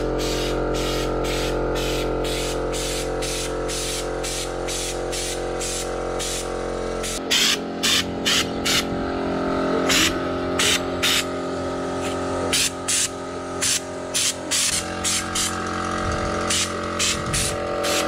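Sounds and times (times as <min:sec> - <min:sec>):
spray gun hissing bursts: 0:00.0 - 0:08.9, 0:09.8 - 0:18.0
air compressor humming: 0:00.0 - 0:18.0.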